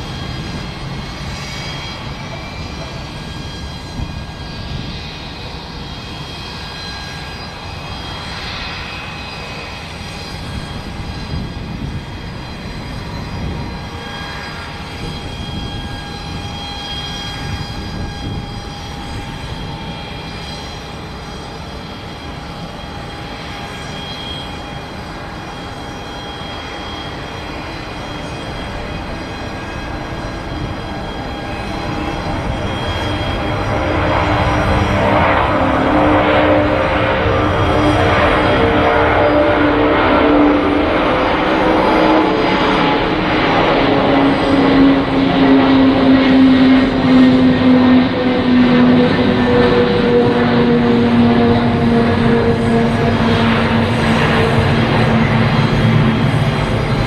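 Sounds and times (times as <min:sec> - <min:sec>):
aircraft turbine engines running: 0:00.0 - 0:57.0.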